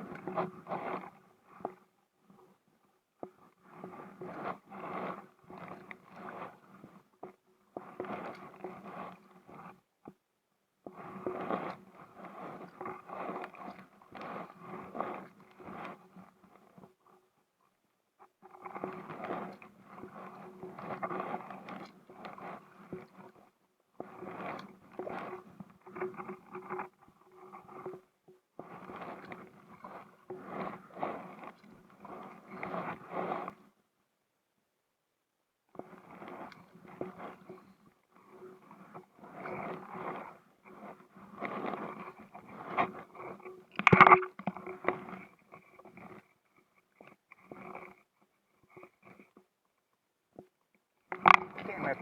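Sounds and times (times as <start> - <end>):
paddle swishing in water: 0.0 - 1.7, 3.6 - 9.8, 10.8 - 16.9, 18.6 - 33.8, 35.8 - 49.4.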